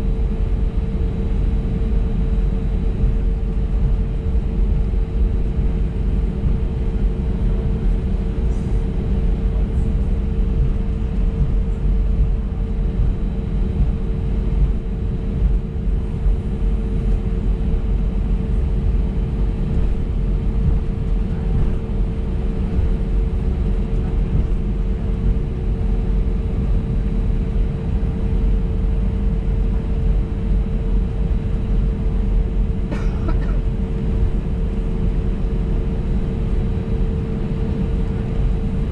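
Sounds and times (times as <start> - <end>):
aircraft engines rumbling: 0.0 - 38.9
constant cabin hum: 0.0 - 38.9.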